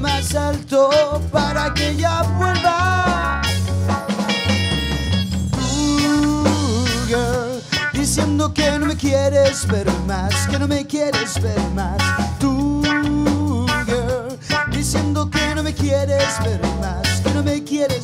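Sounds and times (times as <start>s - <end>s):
drum kit: 0.0s - 18.0s
electric bass: 0.0s - 18.0s
electric guitars: 0.0s - 18.0s.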